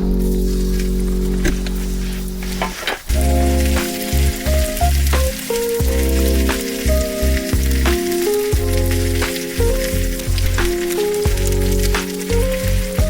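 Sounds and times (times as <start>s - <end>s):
background music with bass: 0.0s - 13.0s
food frying sizzle: 0.0s - 13.0s.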